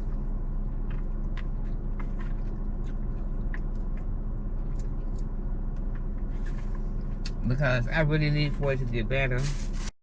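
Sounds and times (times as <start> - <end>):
low hum inside car cabin: 0.0 - 9.9.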